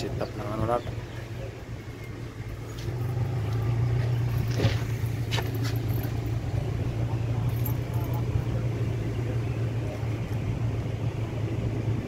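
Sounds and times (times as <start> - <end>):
van engine humming: 0.0 - 12.0.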